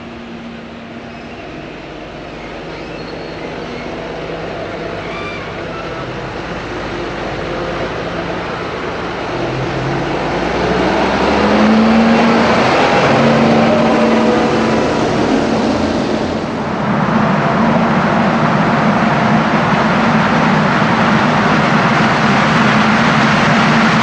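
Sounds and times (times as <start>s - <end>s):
diesel farm machinery running: 0.0s - 24.0s.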